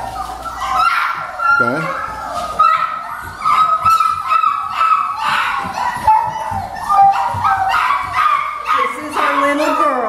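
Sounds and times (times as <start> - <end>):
puppies whining: 0.0 - 10.0.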